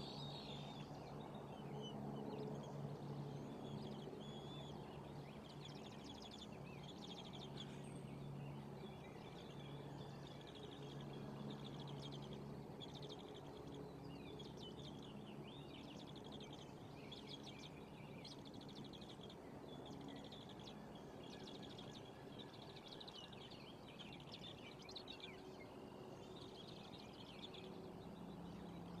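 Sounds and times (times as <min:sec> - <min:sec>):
low steady hum: 0:00.0 - 0:29.0
small birds chirping and trilling: 0:00.0 - 0:29.0.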